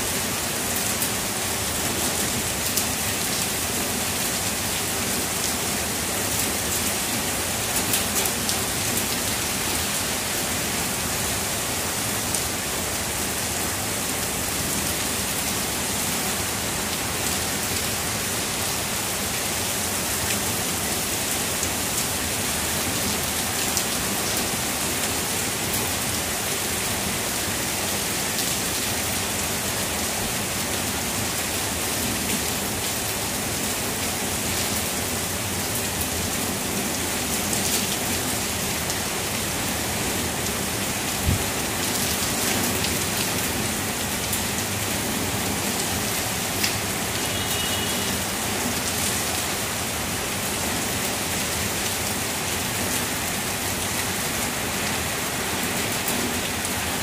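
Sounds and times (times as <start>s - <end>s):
heavy rain through foliage: 0.0s - 57.0s.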